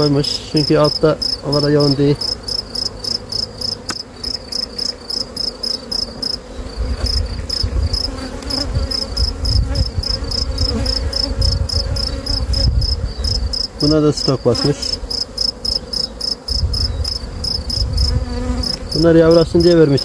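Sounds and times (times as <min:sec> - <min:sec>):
cricket chirping: 0:00.0 - 0:20.0
honeybees buzzing: 0:00.0 - 0:20.0.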